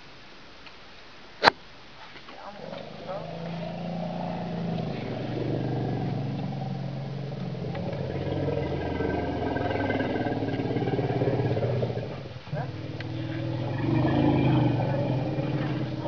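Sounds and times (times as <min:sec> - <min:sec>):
vehicle engine humming: 0:02.3 - 0:16.0.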